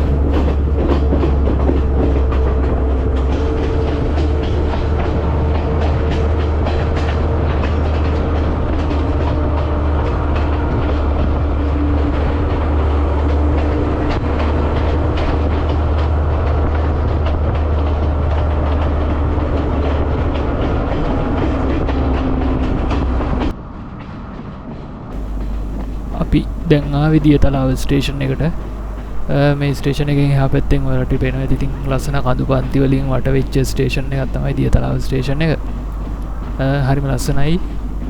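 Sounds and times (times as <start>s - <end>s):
wheels clicking over rails: 0.0s - 23.6s, 25.2s - 38.0s
passenger train rumbling: 0.0s - 38.0s.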